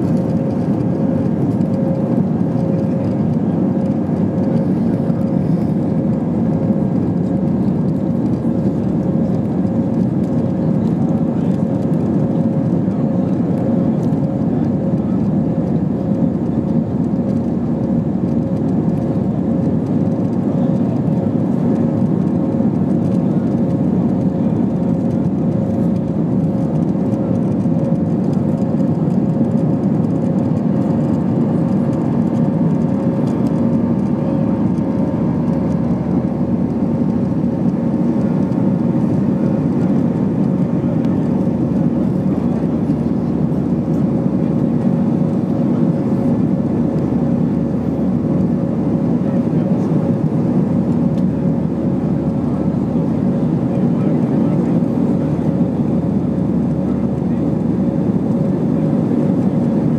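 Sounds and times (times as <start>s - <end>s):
jet engine cabin hum: 0.0s - 59.9s.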